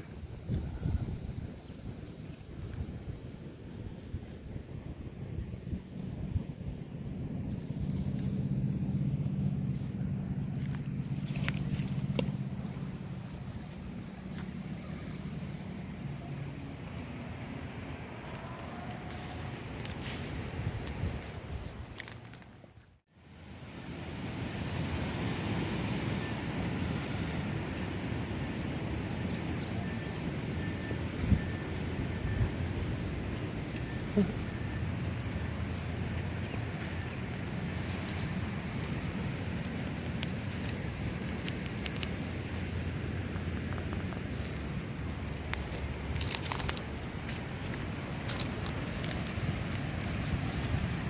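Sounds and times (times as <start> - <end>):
engine hum: 0.0 - 51.0.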